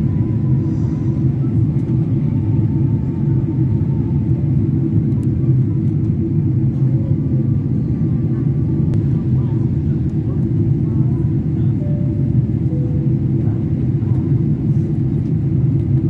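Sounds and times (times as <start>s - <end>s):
jet cabin engine rumble: 0.0s - 16.0s.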